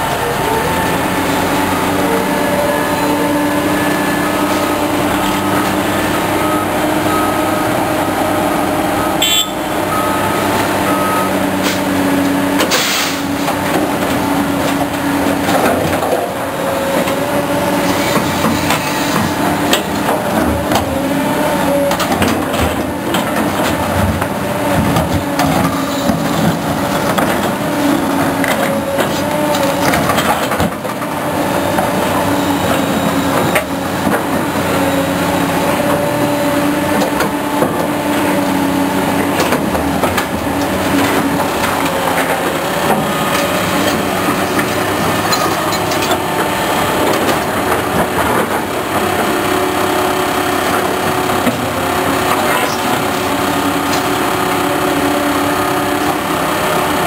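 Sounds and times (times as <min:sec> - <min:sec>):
construction machinery engine drone: 0:00.0 - 0:57.0.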